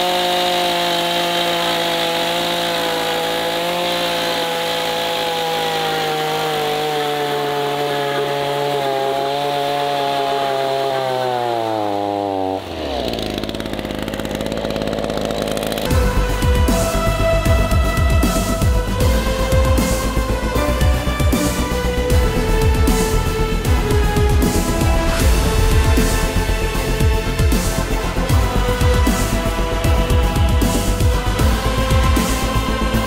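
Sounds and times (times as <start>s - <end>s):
chainsaw cutting at high revs: 0.0s - 33.0s.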